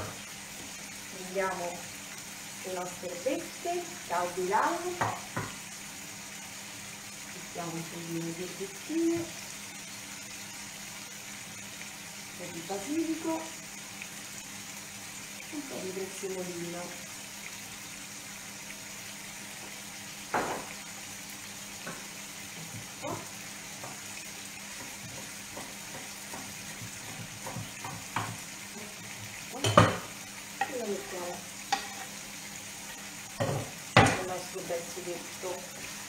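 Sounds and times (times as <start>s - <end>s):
sauce sizzling in a pan: 0.0s - 36.0s.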